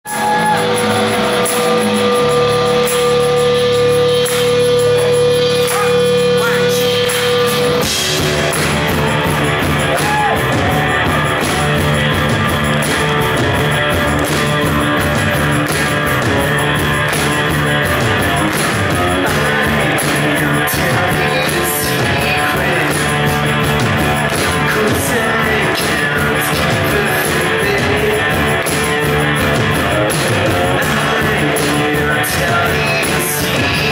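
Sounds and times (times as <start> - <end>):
person singing: 0.0 - 12.3, 17.7 - 33.9
rock band playing live: 0.0 - 33.9.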